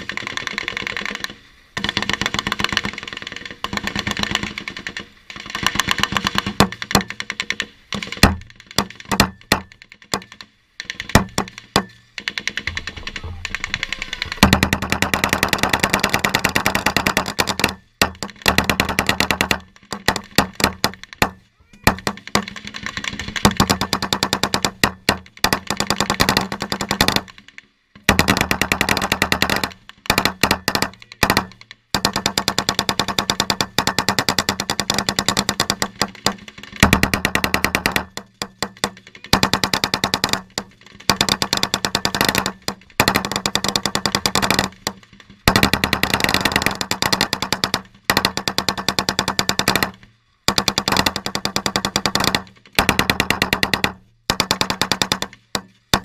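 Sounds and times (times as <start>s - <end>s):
machine-gun fire: 0.0s - 56.0s.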